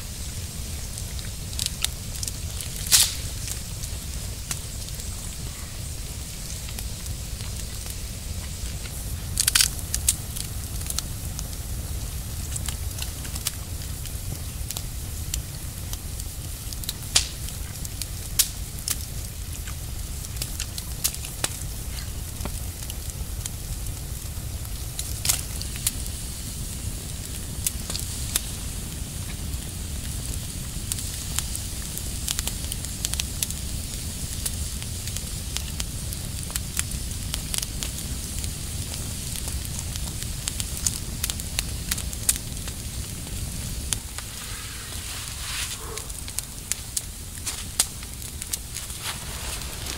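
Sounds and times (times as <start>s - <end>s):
campfire crackling and popping: 0.0s - 49.9s
low steady rumble: 0.0s - 49.9s.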